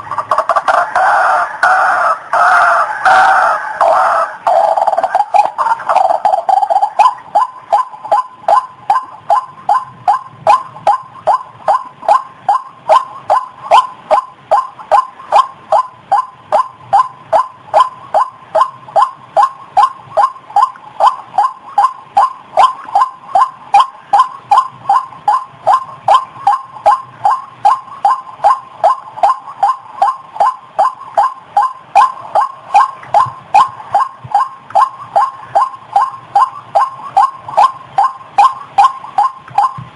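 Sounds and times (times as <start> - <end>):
waterhen call: 0.2 - 39.9.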